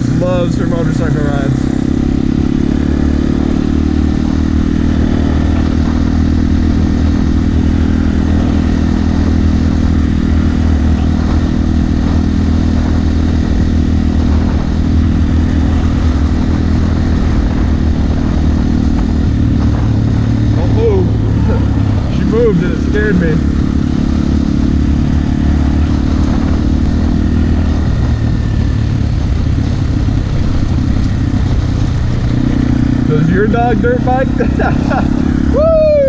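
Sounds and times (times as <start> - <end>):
dirt bike engine cruising: 0.0 - 36.0.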